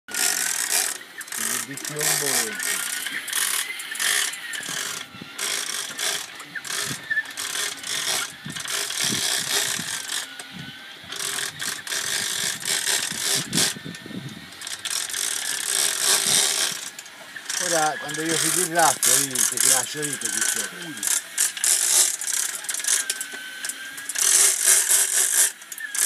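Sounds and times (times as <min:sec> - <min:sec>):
fishing reel clicking: 0:00.1 - 0:13.9, 0:14.5 - 0:26.0.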